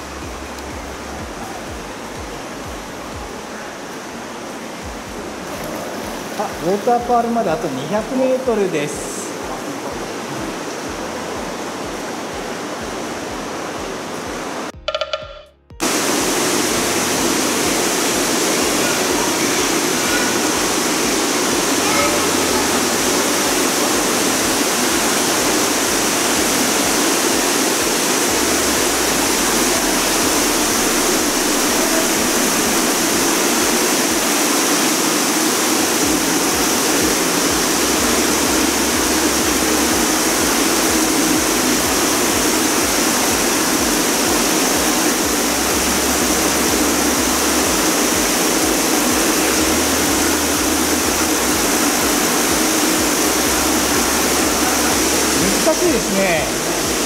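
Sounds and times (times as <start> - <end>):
water running down stone wall: 4.9 - 14.1, 15.8 - 57.0.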